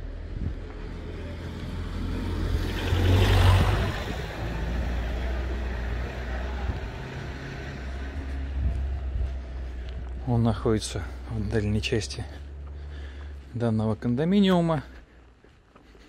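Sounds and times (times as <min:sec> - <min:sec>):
motor vehicle passing: 0:00.0 - 0:13.6.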